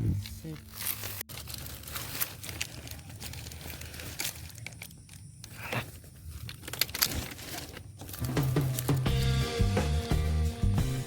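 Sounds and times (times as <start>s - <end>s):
rustling and crackling: 0.0s - 9.0s.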